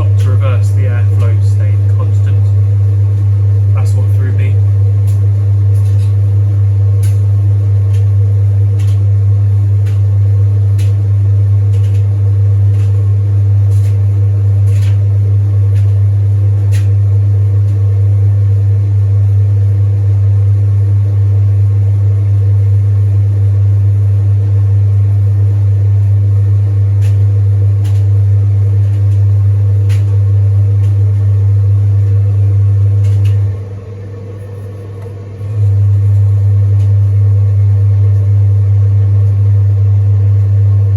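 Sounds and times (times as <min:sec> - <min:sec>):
blower fan running: 0:00.0 - 0:40.9
tumble dryer motor hum: 0:00.0 - 0:40.9.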